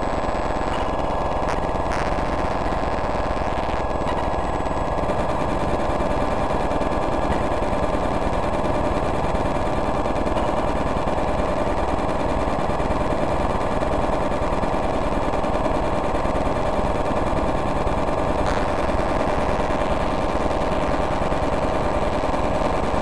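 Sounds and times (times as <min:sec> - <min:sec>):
rapid electronic pulses buzzing: 0:00.0 - 0:23.0.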